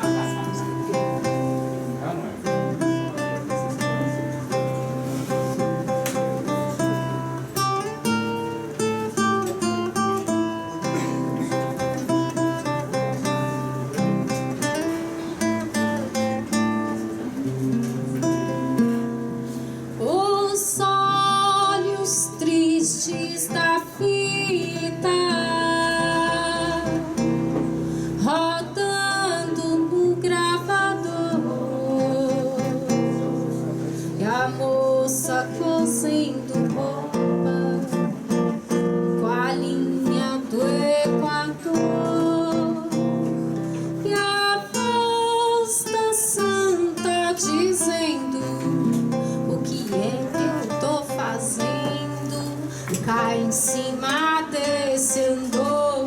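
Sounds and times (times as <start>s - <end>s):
acoustic guitar strummed: 0.0s - 56.0s.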